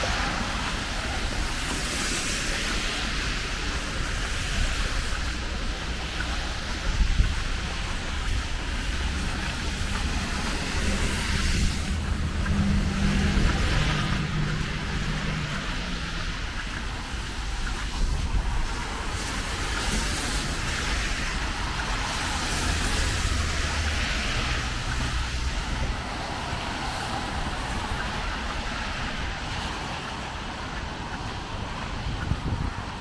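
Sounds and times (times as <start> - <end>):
low traffic rumble: 0.0 - 33.0
tyres hissing on wet road: 0.0 - 33.0.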